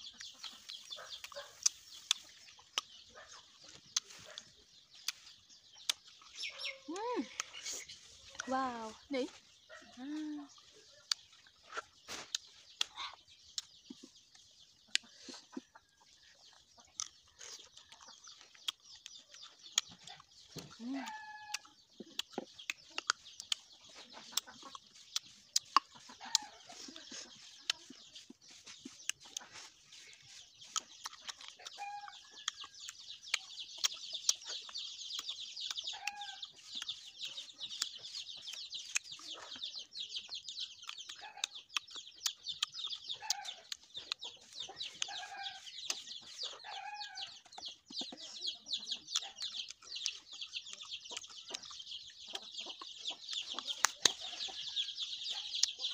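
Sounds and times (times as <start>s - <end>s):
chickens clucking: 0.0s - 55.9s.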